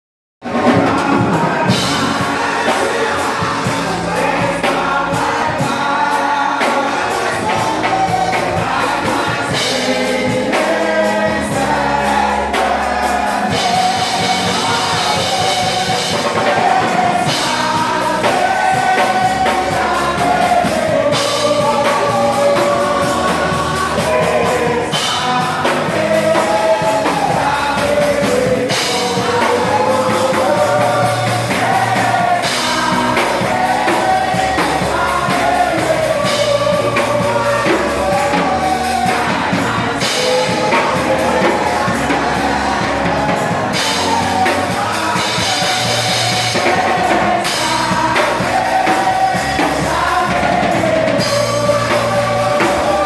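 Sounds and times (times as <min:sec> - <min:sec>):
amplified band music: 0:00.4 - 0:53.0
congregation singing a praise song: 0:00.4 - 0:53.0
drums and cymbals beat: 0:00.4 - 0:53.0.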